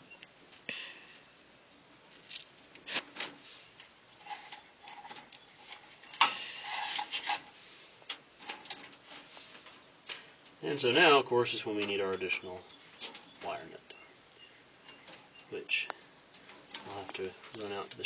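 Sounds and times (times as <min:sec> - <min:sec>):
rustling: 0:02.0 - 0:18.0.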